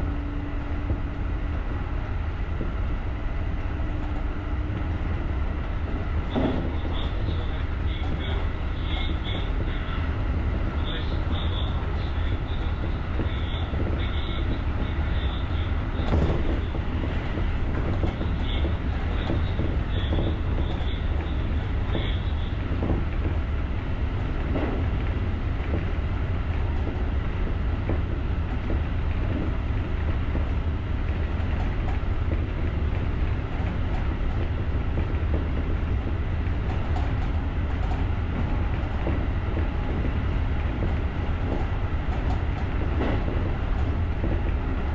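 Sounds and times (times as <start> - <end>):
electric train rumbling on track: 0.0 - 44.9.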